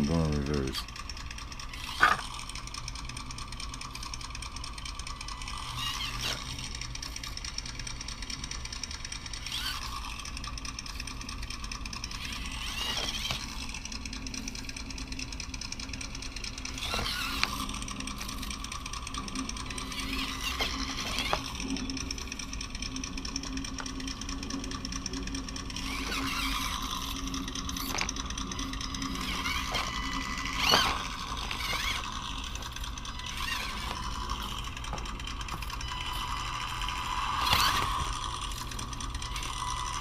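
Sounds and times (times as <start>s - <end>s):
simulated engine sound from speaker: 0.0s - 40.0s.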